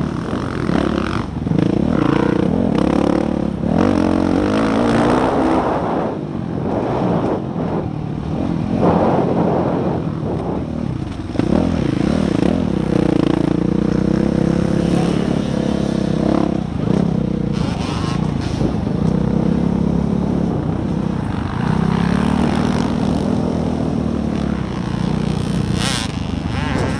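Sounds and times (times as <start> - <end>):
dirt bike engine revving: 0.0 - 20.0, 21.2 - 26.9.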